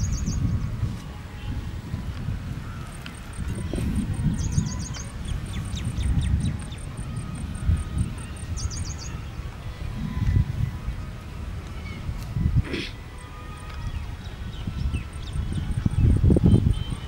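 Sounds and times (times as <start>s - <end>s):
small birds chirping: 0.0s - 0.8s, 2.1s - 17.0s
wind rumble on microphone: 0.0s - 17.0s.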